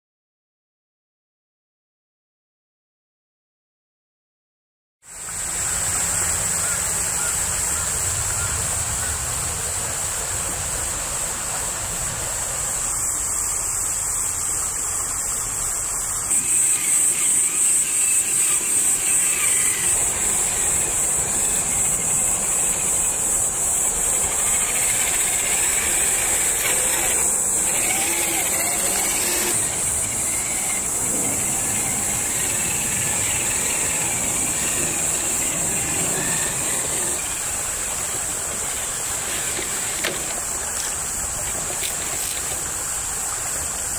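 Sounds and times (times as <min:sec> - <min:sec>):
electric motor and gears whining: 0:05.1 - 0:43.9
high-pitched pulsing drone: 0:05.4 - 0:41.2.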